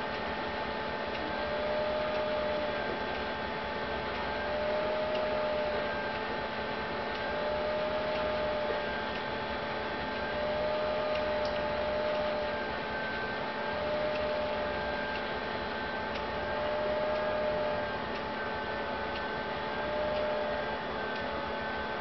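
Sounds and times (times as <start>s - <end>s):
electrical hum with hiss: 0.0s - 22.0s
faint wavering whine: 0.0s - 22.0s.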